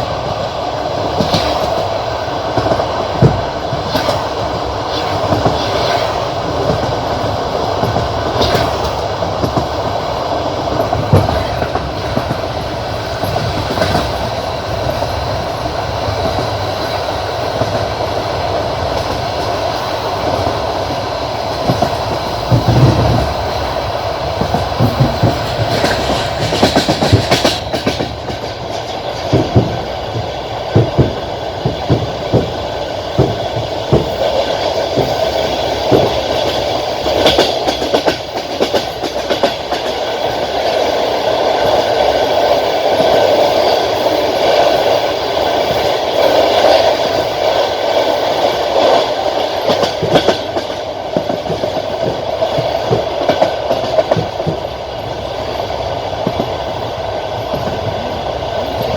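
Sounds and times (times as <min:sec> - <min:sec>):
train rumble: 0:00.0 - 0:58.9
wheels clicking over rail joints: 0:01.0 - 0:58.9.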